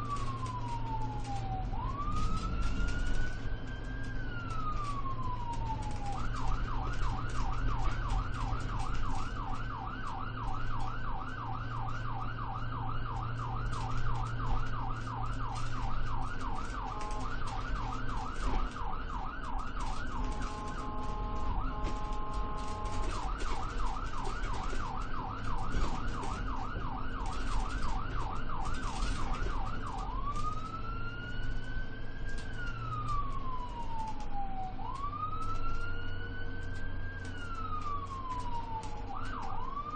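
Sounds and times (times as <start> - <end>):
ambulance siren: 0.0 - 39.9
engine and road noise: 0.0 - 39.9.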